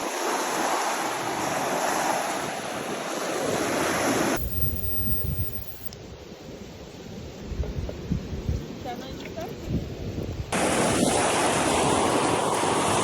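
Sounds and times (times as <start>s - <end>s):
surf washing on shore: 0.0s - 5.0s, 7.0s - 13.0s
wind buffeting microphone: 1.0s - 13.0s.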